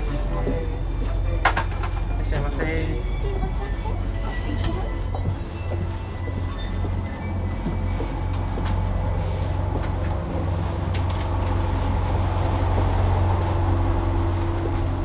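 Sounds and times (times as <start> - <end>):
diesel railcar rumble inside: 0.0 - 15.0.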